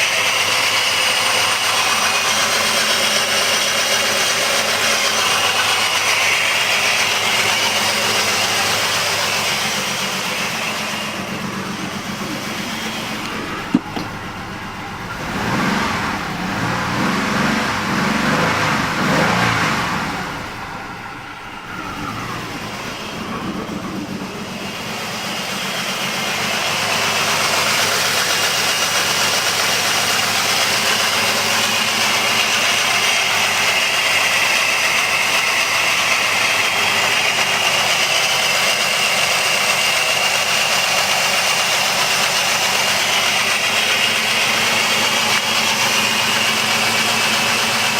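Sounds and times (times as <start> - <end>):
car engine rough idle: 0.0 - 47.9.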